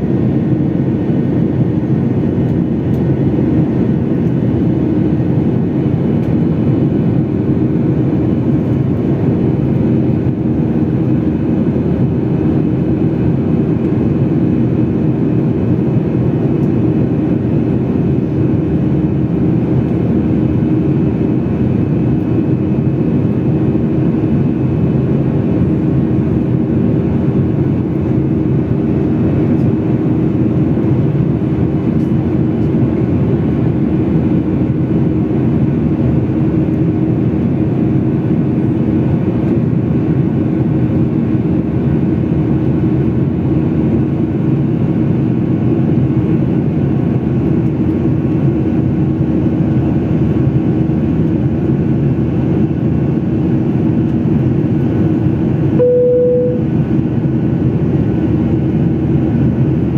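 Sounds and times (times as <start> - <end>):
jet engine cabin drone: 0.0 - 59.9.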